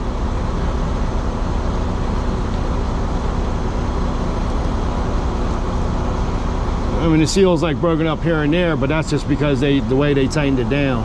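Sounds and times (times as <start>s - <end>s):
roadway traffic noise: 0.0s - 11.0s
truck engine idling: 0.0s - 11.0s.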